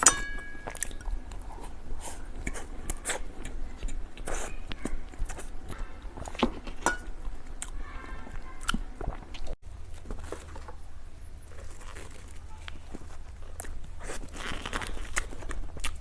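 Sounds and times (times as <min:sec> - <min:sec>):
person chewing cake: 0:00.0 - 0:16.0.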